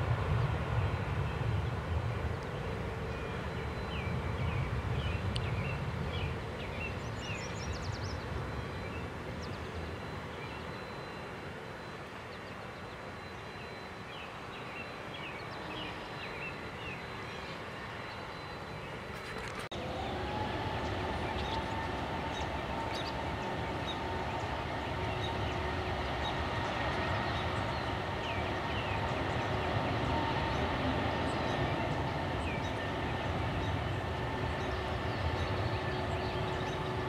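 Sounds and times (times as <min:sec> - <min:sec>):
distant jet engines rumbling: 0:00.0 - 0:37.0.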